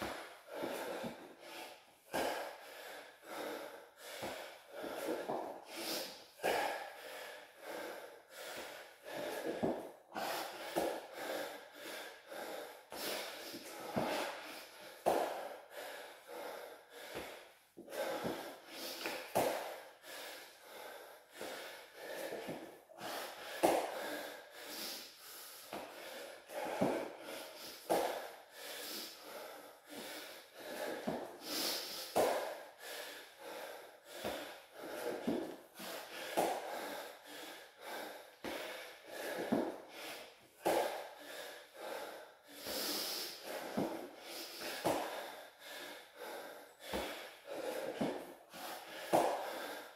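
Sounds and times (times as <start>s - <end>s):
man breathing hard: 0.0s - 49.9s.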